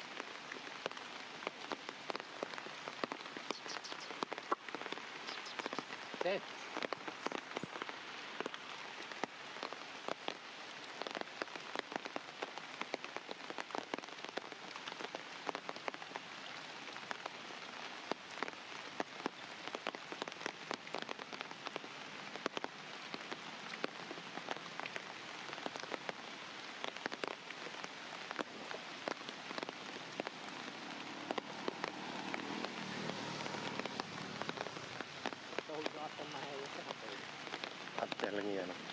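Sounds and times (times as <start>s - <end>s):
rain hissing: 0.0s - 38.9s
raindrops ticking on surface: 0.0s - 38.9s.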